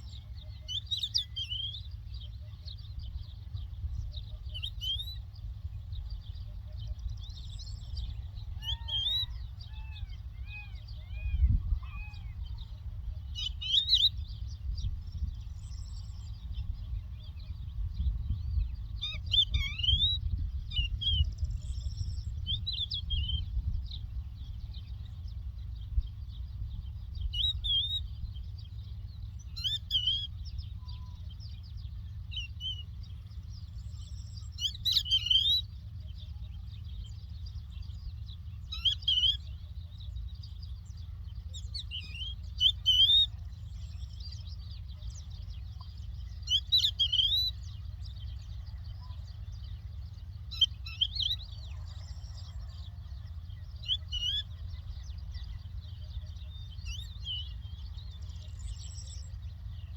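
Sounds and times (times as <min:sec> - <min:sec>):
lark chirps and trills: 0:00.0 - 0:59.9
steady low rumble: 0:00.0 - 0:59.9.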